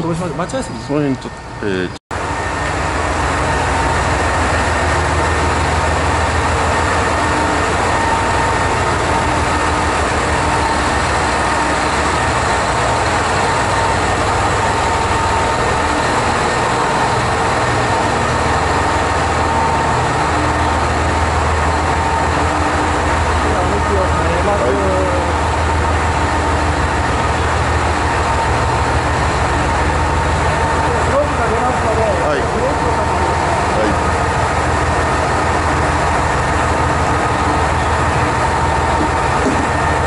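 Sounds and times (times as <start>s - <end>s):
diesel engines throbbing: 0.0s - 40.0s
steady high hum: 0.0s - 40.0s.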